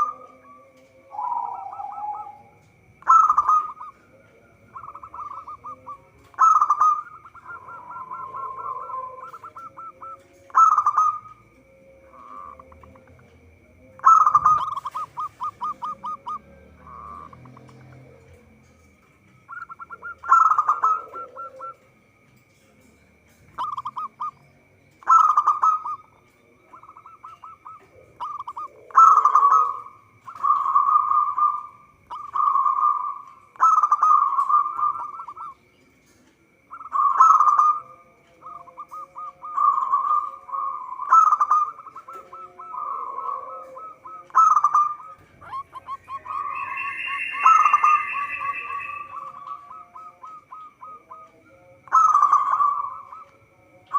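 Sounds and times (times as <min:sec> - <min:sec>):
higher bird call: 0:00.0 - 0:22.3, 0:23.3 - 0:53.9
dove cooing: 0:00.0 - 0:53.9
faint steady high tone: 0:00.0 - 0:53.9.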